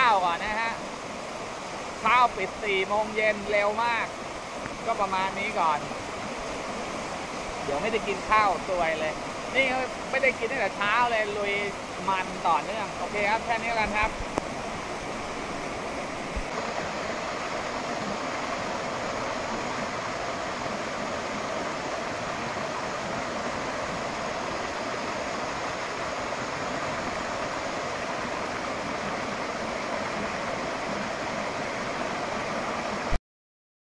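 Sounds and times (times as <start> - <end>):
water rushing over rock: 0.0 - 33.2.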